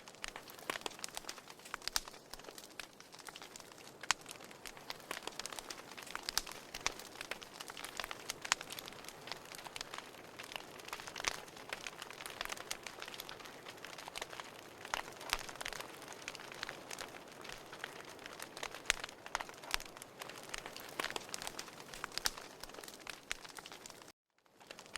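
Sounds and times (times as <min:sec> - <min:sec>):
firewood crackling and popping: 0:00.0 - 0:24.9
soft hiss of flames: 0:00.0 - 0:24.9.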